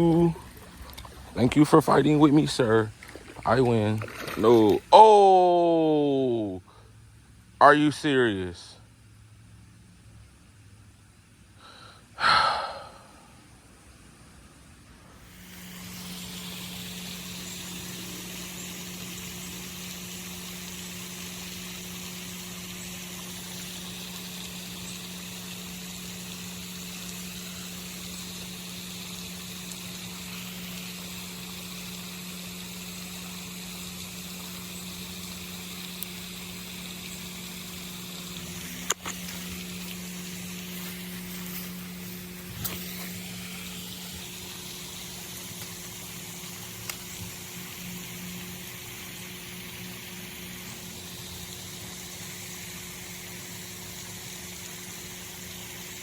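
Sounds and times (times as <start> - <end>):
low machine hum with hiss: 0.0 - 56.0.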